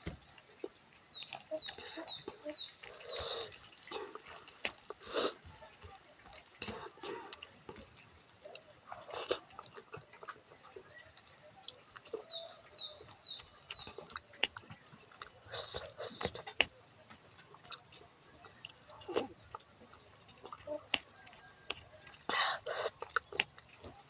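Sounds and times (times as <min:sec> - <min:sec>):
wet chewing and slurping: 0:00.0 - 0:24.0.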